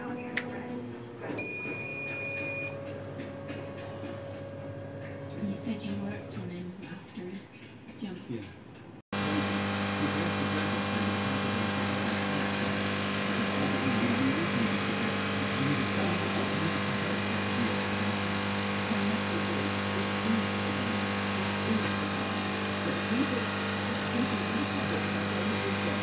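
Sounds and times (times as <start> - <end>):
laser etcher electric hum: 0.0 - 6.9, 9.2 - 26.0.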